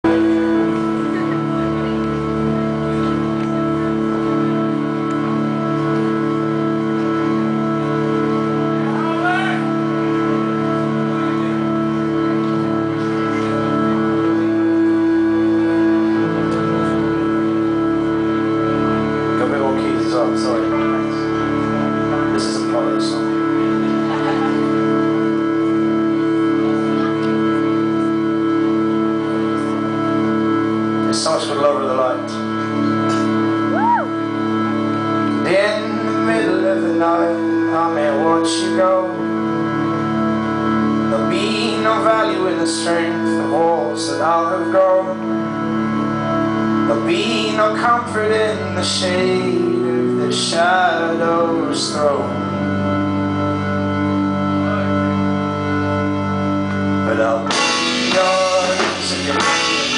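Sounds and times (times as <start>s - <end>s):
low bass note: 0.0s - 59.9s
organ-like keyboard chord: 0.0s - 59.9s.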